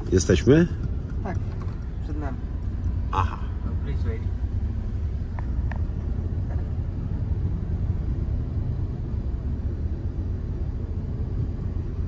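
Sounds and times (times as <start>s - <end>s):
car interior engine and tyre rumble: 0.0s - 12.0s.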